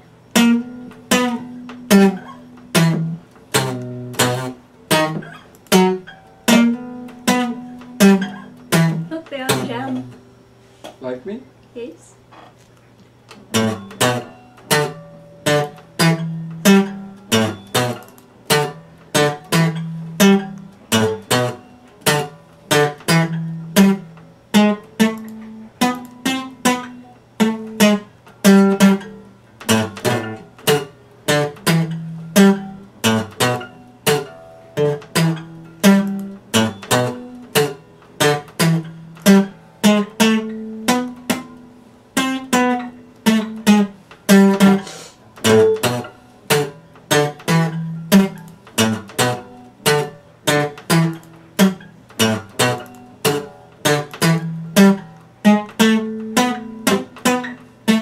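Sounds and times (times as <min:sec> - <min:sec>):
acoustic guitar strummed chords: 0:00.0 - 0:10.8, 0:13.3 - 0:58.0.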